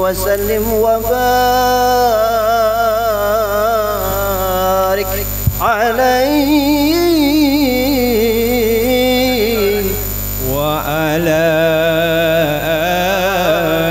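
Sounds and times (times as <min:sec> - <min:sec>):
electrical hum: 0:00.0 - 0:13.9
man chanting through microphone: 0:00.0 - 0:13.9.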